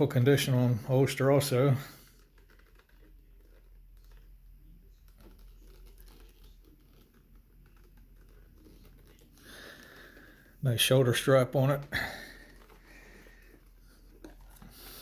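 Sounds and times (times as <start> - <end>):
holster handling ticks and rustles: 0.2 - 15.0.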